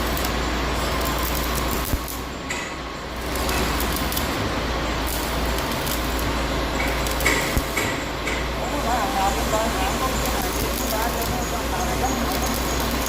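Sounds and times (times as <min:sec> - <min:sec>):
arc welding hiss: 0:00.0 - 0:13.0.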